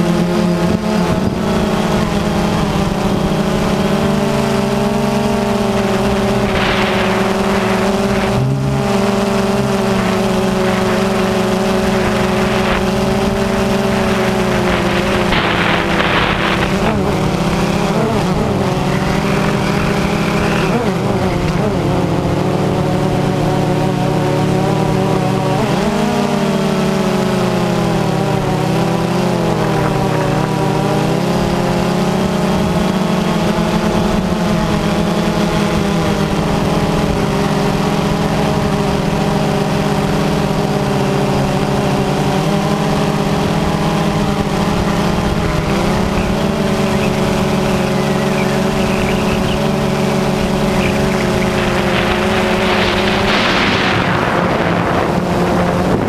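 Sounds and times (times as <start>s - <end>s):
drone motors humming: 0.0s - 56.0s
wind buffeting microphone: 0.6s - 24.0s, 27.6s - 56.0s.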